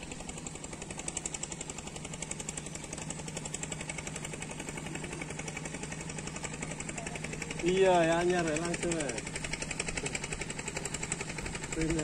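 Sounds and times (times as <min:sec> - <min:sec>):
small boat engine chugging: 0:00.0 - 0:12.0.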